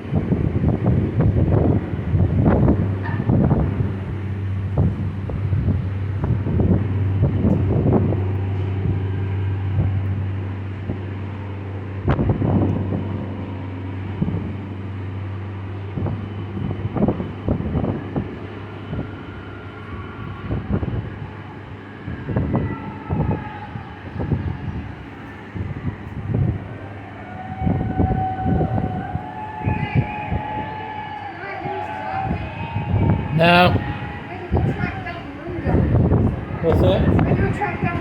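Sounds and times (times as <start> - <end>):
ship deep drone: 0.0 - 38.0
wind buffeting microphone: 0.0 - 38.0.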